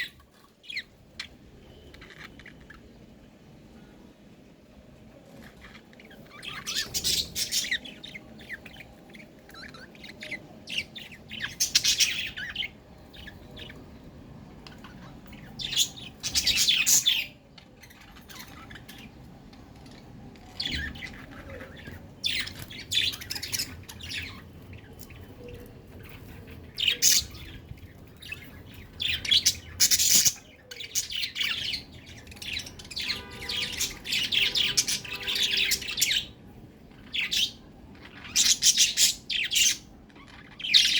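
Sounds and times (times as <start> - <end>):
budgerigars chirping and chattering: 0.0 - 3.1, 5.2 - 40.9.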